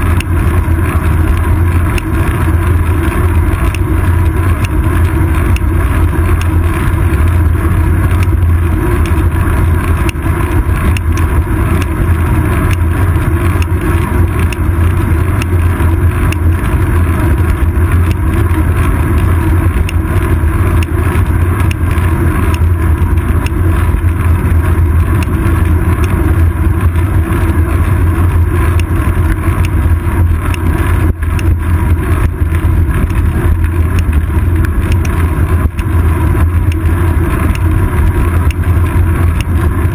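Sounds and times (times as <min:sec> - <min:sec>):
bicycle road vibration: 0:00.0 - 0:39.9
wind rumble: 0:00.0 - 0:39.9.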